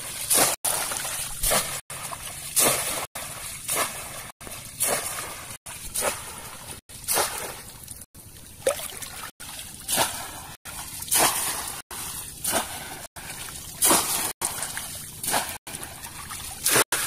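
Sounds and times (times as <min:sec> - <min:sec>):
fish trap splashing in water: 0:00.0 - 0:17.0
water sloshing: 0:00.0 - 0:17.0.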